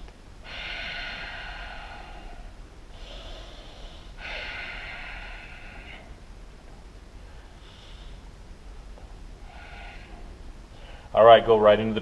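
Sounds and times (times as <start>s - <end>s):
man breathing deeply: 0.0s - 11.2s.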